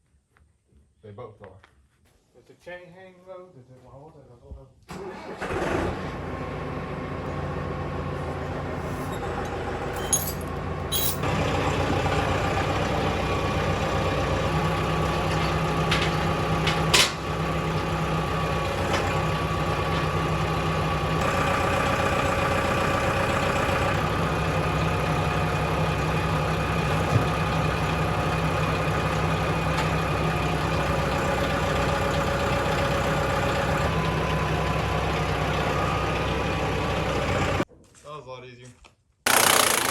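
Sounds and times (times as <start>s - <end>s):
engine running: 5.0s - 37.7s.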